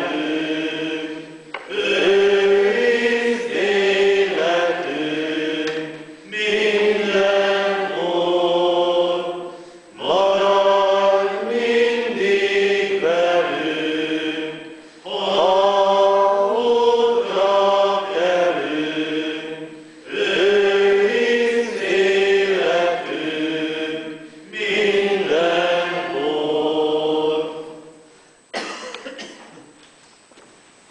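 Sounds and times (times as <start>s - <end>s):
congregation singing a hymn: 0.0s - 29.3s.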